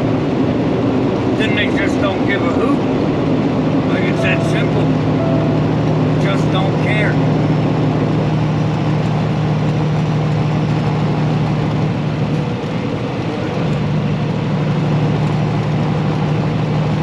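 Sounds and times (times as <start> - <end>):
heavy truck engine droning: 0.0 - 17.0.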